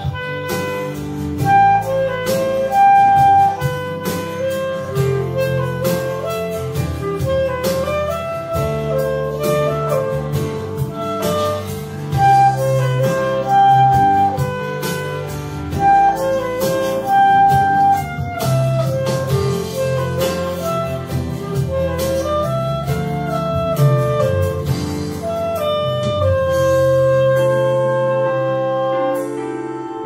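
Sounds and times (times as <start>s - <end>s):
backing track with light percussion: 0.0s - 30.0s
clarinet melody: 0.0s - 30.0s.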